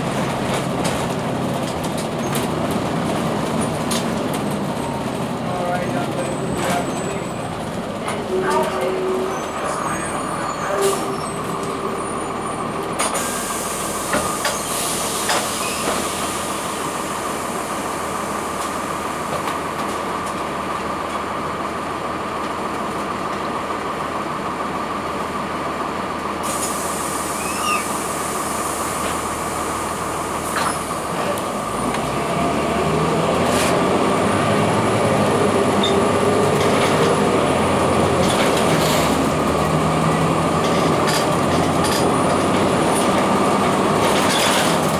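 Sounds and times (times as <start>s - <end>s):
bus engine running with whine: 0.0s - 44.9s.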